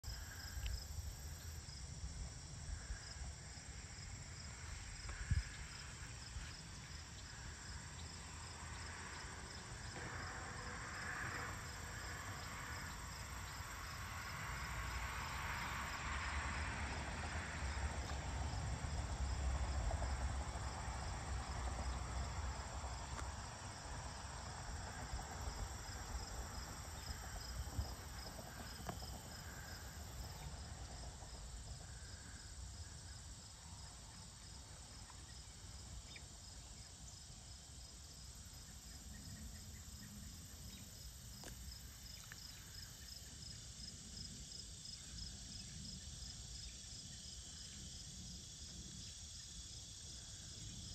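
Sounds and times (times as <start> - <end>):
crickets trilling: 0.0 - 50.9
pulsing cricket chirp: 0.0 - 50.9.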